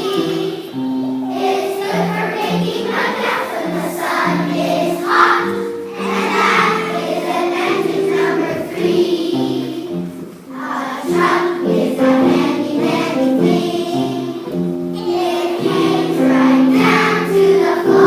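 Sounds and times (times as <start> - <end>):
children singing in chorus: 0.0 - 18.0.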